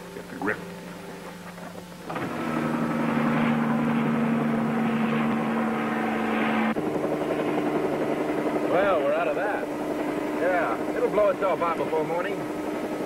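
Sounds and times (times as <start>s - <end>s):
helicopter engine and rotor drone: 0.2s - 13.0s.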